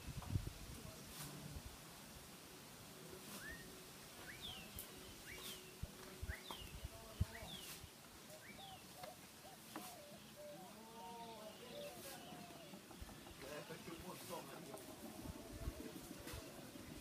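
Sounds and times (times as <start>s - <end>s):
bird calling: 3.2s - 17.0s.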